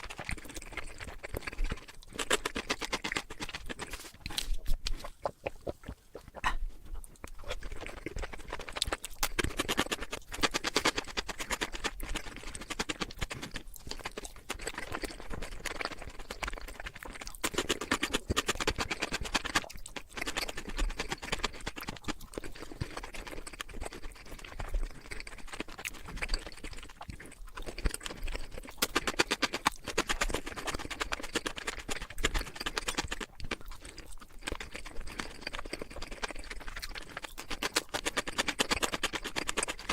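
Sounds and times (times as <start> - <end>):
chewing crunchy food: 0.0 - 39.9
wet mouth sounds: 0.0 - 39.9.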